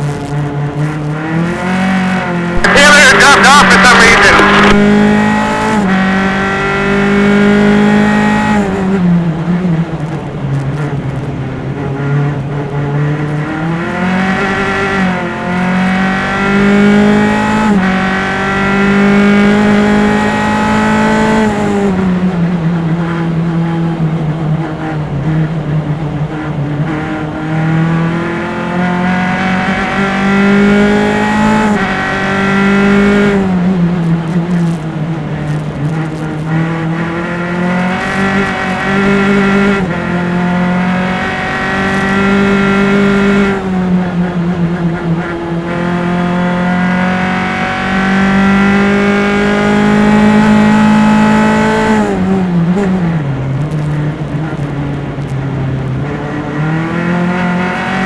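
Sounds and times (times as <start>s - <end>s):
race car engine revving: 0.1s - 24.0s, 26.9s - 55.2s.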